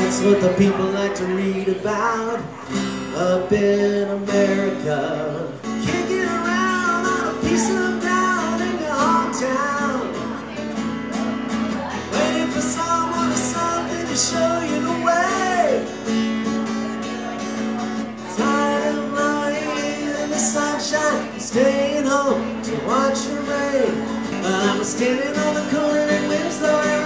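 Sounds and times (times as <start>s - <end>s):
man singing: 0.0s - 10.6s, 11.8s - 16.2s, 18.2s - 27.0s
strummed acoustic guitar: 0.0s - 27.0s.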